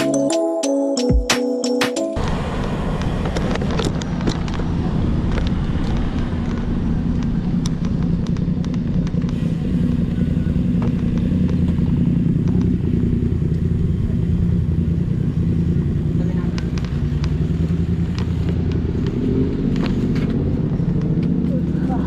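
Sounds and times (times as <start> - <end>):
vehicle engine rumbling: 2.2 - 22.0.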